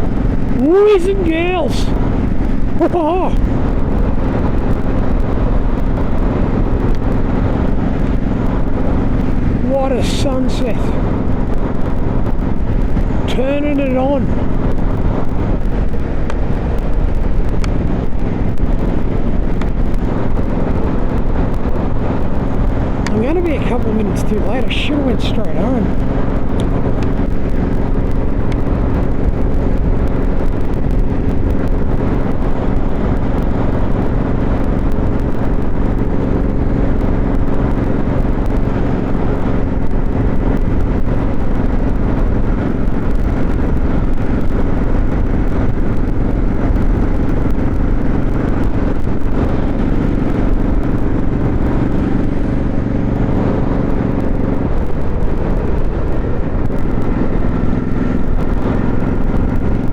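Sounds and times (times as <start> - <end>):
motorcycle engine cruising: 0.0 - 59.9
road and wind rumble: 0.0 - 59.9.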